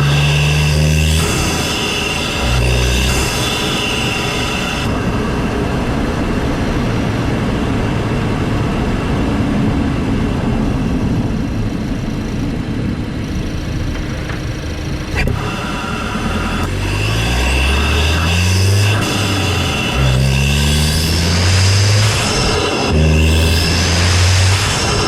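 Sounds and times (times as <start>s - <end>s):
engine and road drone: 0.0s - 25.0s
turbo intake hissing whine: 0.0s - 25.0s.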